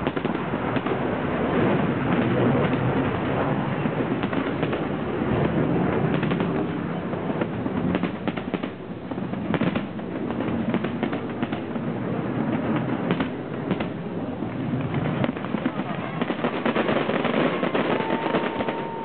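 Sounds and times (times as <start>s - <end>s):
firework booms: 0.0s - 19.0s
sharp crackling cracks: 0.0s - 19.0s.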